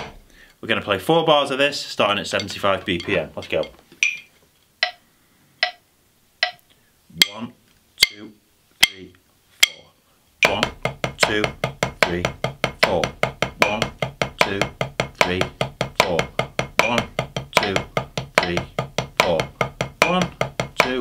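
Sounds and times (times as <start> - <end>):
drumsticks tapping practice pad: 2.3 - 5.0, 5.6 - 21.0.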